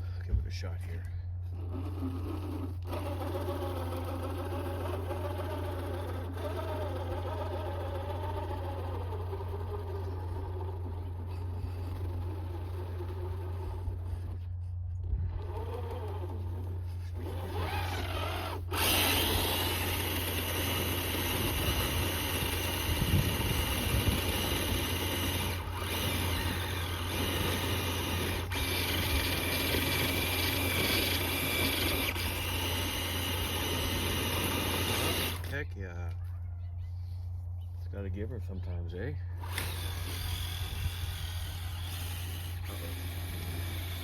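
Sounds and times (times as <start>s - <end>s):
low hum: 0.0s - 44.0s
electric motor whining: 1.4s - 35.8s, 39.4s - 44.0s.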